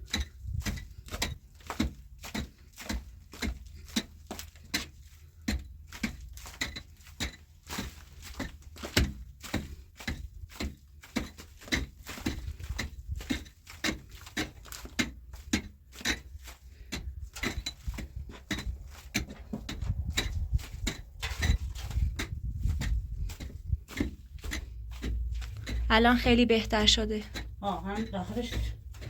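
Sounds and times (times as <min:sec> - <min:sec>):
sharp knocks and clicks: 0:00.0 - 0:29.0.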